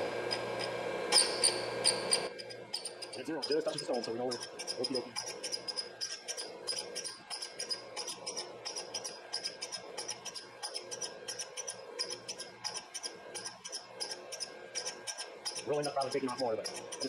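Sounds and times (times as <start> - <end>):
grinding wheel rasping on metal: 0.0 - 17.0
motor hum: 0.0 - 17.0.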